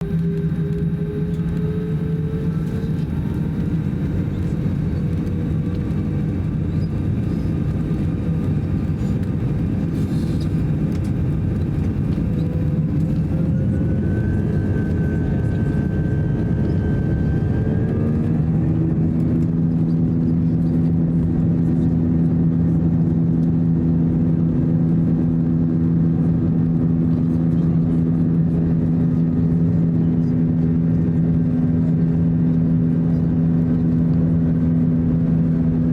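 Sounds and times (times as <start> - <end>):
jet engines humming in cabin: 0.0 - 35.9.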